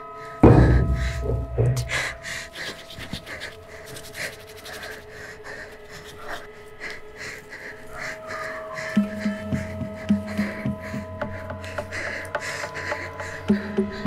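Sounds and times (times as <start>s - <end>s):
person panting: 0.0s - 14.0s.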